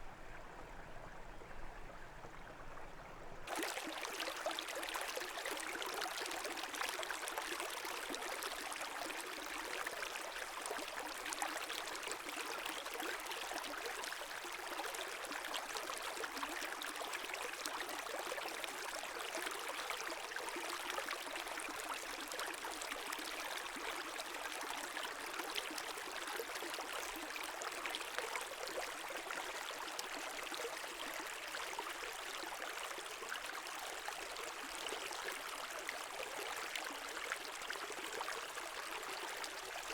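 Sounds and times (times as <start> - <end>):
brook flowing: 0.0 - 39.9.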